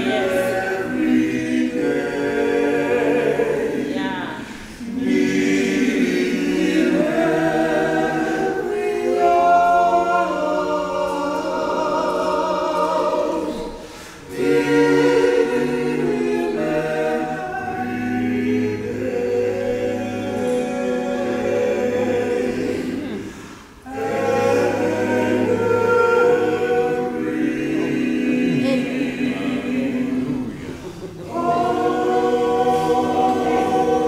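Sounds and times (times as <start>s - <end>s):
male quartet singing a hymn: 0.0s - 34.0s.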